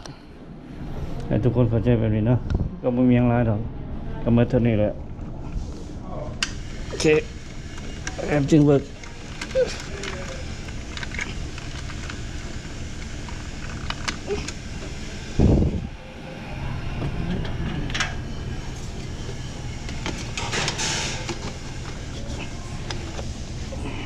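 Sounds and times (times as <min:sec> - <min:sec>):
refrigerator compressor humming: 0:00.0 - 0:24.0.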